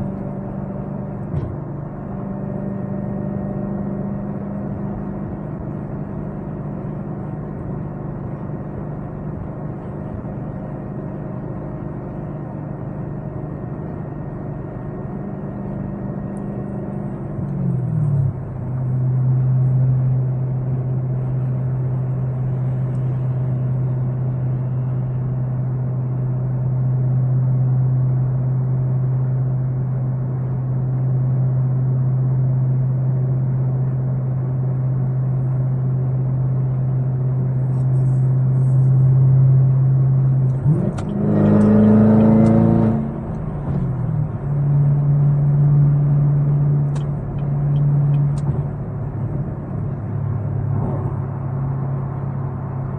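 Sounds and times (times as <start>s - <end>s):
car engine droning and revving: 0.0s - 52.9s.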